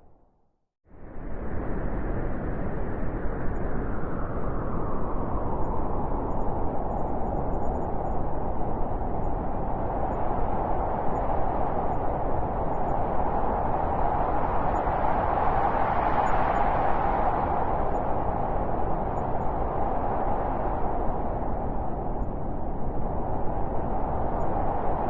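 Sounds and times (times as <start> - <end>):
blizzard wind howling: 0.9 - 25.0.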